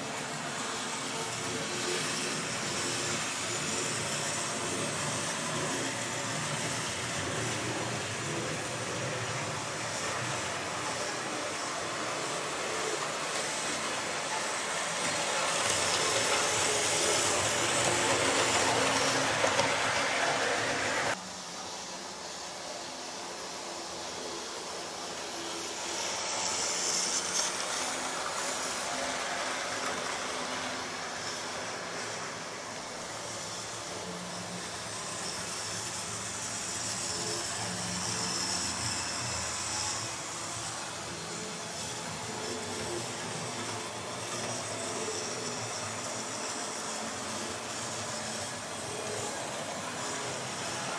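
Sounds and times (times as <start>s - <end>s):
model train whirring on track: 0.0s - 50.9s.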